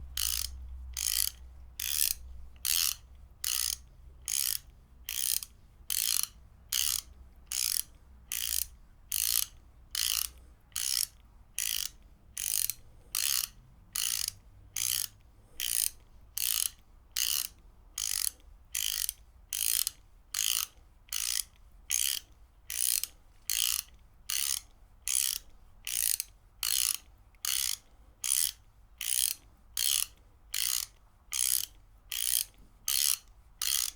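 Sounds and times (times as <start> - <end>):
ratchet wrench clicking: 0.2 - 33.9.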